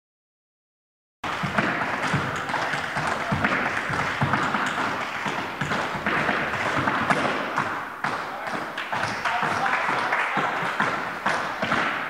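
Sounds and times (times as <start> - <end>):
tap shoes on wooden floor: 1.2 - 12.0.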